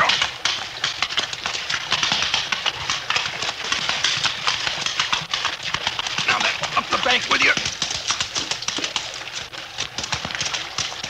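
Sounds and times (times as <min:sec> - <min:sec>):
hooves clopping on stones: 0:00.0 - 0:11.0
running water rushing: 0:00.0 - 0:11.0.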